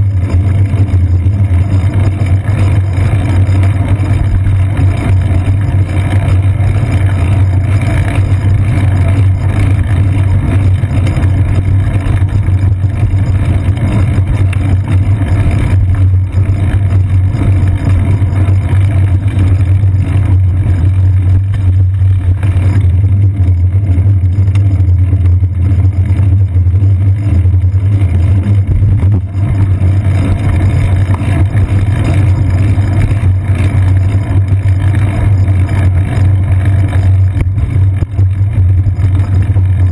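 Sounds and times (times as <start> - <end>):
road vibration rumble: 0.0 - 39.9
wind: 0.0 - 39.9.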